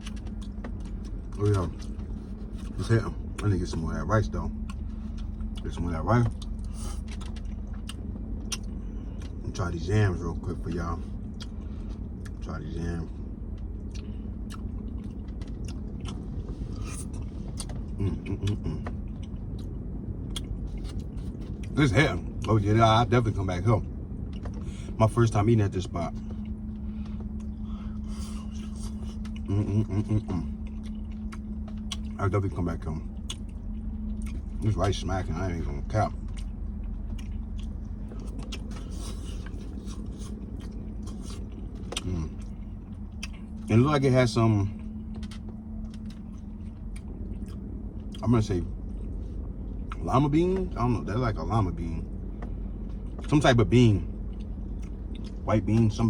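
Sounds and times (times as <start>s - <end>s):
person chewing: 0.0s - 9.6s, 10.6s - 22.5s, 23.8s - 50.7s, 52.0s - 53.4s, 54.1s - 55.5s
closed-mouth hum: 0.0s - 56.0s
low background rumble: 0.0s - 56.0s.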